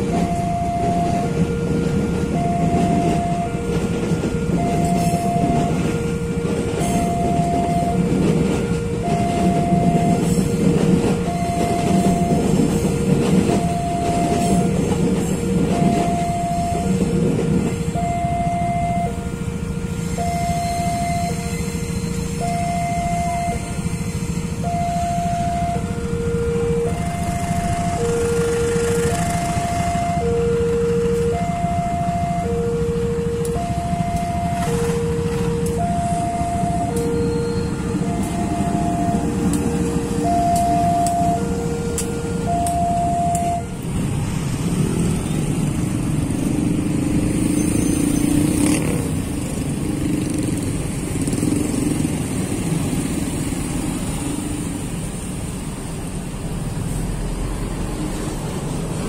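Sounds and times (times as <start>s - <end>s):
level crossing alarm two-tone: 0.0s - 48.8s
diesel train rumbling past: 0.0s - 59.0s
road traffic idling: 0.0s - 59.0s.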